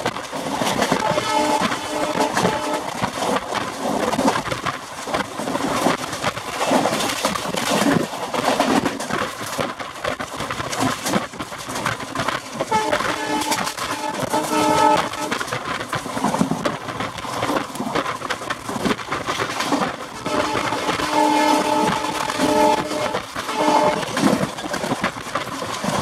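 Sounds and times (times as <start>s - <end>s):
train wheels rattling over rails: 0.0s - 26.0s.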